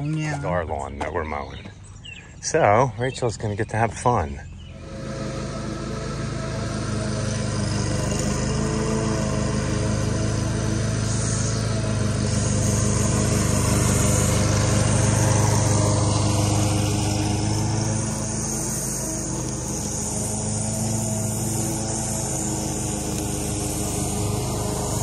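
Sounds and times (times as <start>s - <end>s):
lawn mower engine running: 3.0s - 25.0s.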